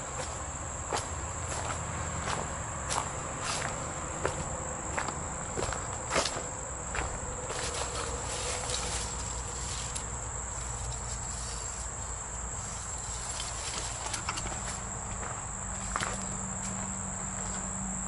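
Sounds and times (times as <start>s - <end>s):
footsteps crackling brush: 0.0s - 17.7s
insects trilling: 0.0s - 18.0s.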